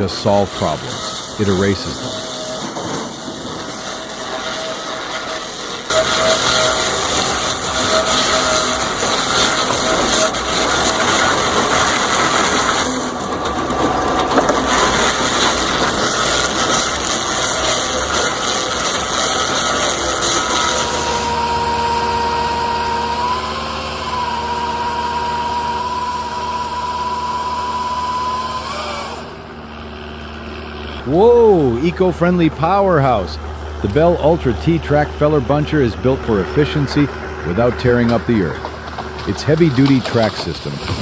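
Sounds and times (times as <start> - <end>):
heavy machinery engine whining: 0.0 - 41.0.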